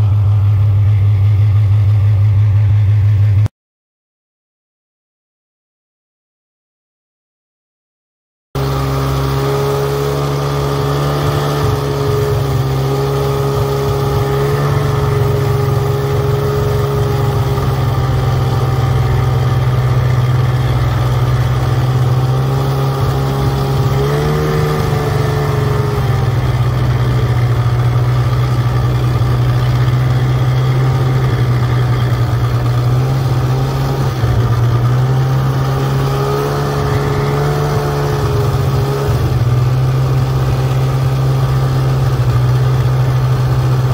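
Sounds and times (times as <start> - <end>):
snowmobile engine running: 0.0 - 3.5, 8.6 - 43.9.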